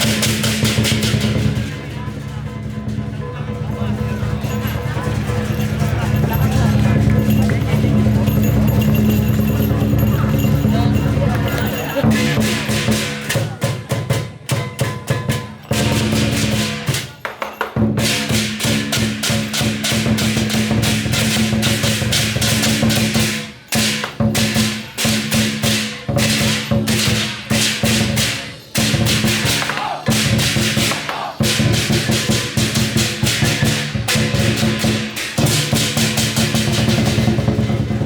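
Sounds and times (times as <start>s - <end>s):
cymbals clashing: 0.0s - 38.0s
drum beaten in fast rhythm: 0.0s - 38.0s.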